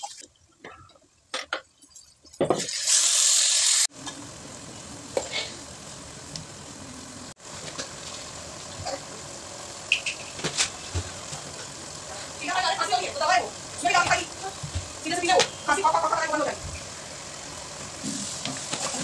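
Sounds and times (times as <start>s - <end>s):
onion and tomato sizzling in oil: 2.6s - 19.0s.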